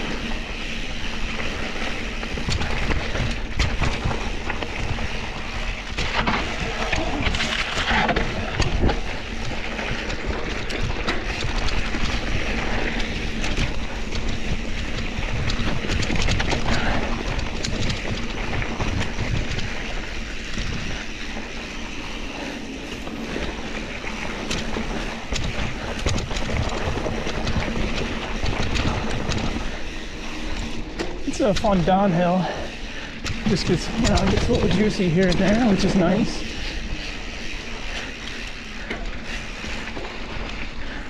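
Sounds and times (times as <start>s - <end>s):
bike rattling over rocks: 0.0s - 41.0s
bike tyres crunching on dirt: 0.0s - 41.0s.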